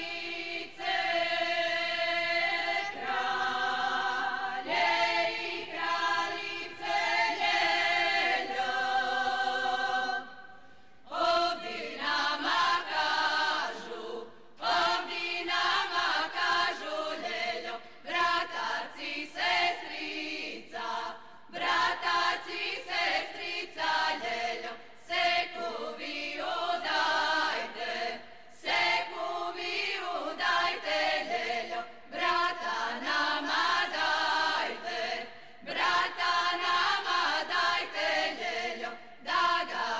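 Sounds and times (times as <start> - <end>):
women's group singing a cappella: 0.0 - 39.9.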